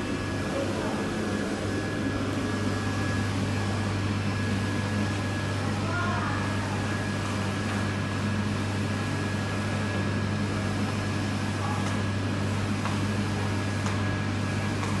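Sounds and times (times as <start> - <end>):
machine humming and whining: 0.0 - 15.0.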